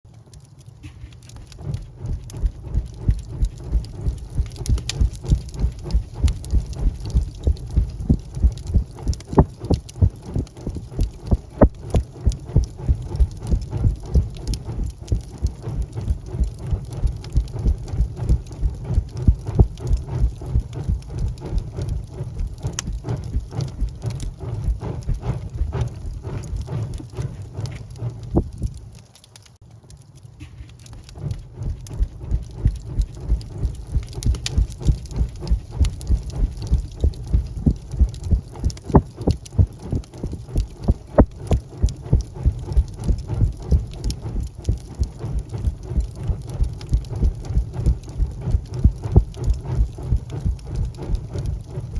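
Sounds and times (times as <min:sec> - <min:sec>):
wood fire crackling and popping: 0:00.1 - 0:51.9.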